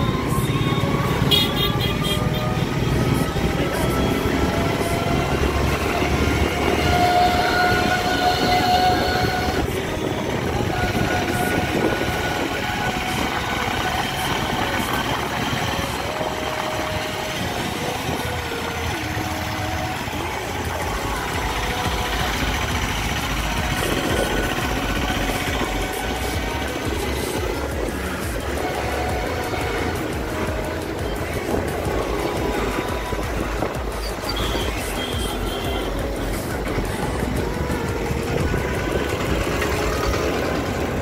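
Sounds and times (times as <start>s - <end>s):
scooter engine and tyre drone: 0.0s - 41.0s
wind rumble on microphone: 2.2s - 41.0s.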